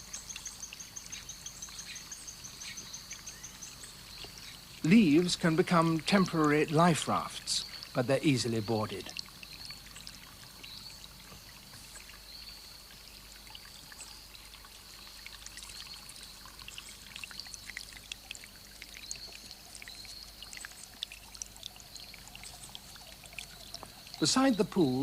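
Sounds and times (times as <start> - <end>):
water trickling in a stream: 0.0 - 25.0.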